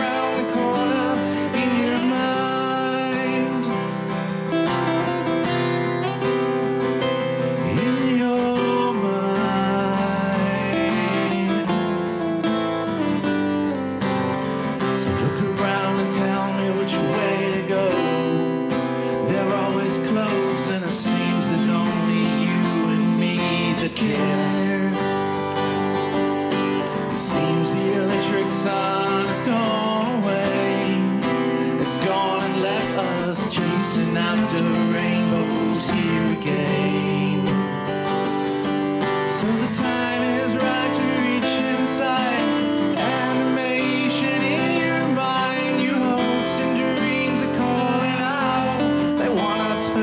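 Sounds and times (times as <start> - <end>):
man singing: 0.0 - 13.8, 14.6 - 50.0
acoustic guitars playing: 0.0 - 50.0.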